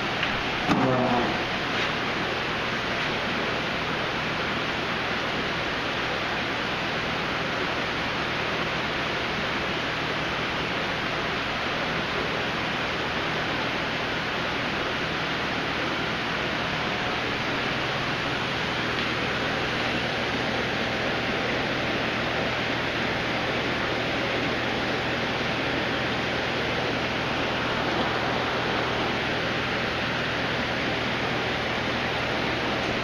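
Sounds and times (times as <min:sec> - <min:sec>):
aquarium water and filter hissing: 0:00.0 - 0:33.0.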